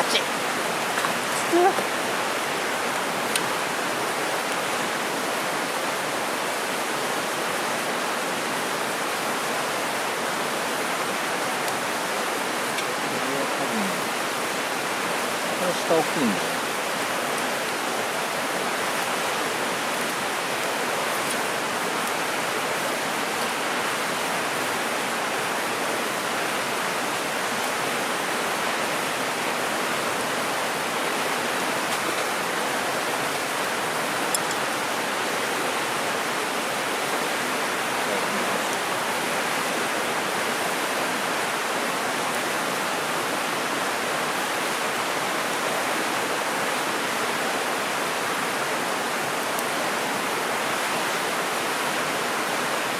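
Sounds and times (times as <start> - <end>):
water rushing over rocks: 0.0 - 52.9.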